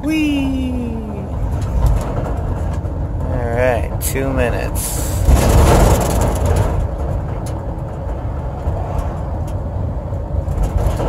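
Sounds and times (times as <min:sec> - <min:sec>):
car interior road and engine rumble: 0:00.0 - 0:11.0.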